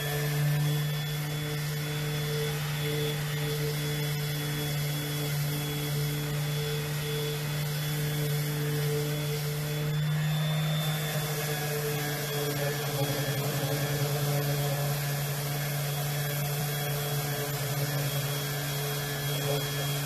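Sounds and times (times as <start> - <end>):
electric sander on wood: 0.0 - 20.0.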